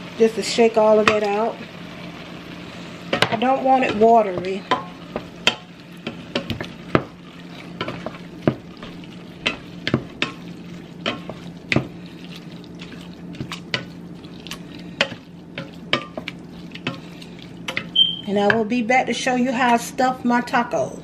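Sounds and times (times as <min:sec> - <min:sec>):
meat sizzling: 0:00.0 - 0:18.2.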